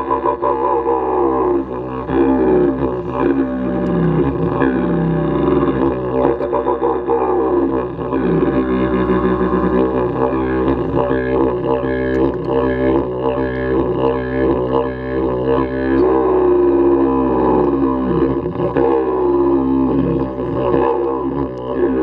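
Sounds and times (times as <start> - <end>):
didgeridoo drone: 0.0 - 22.0.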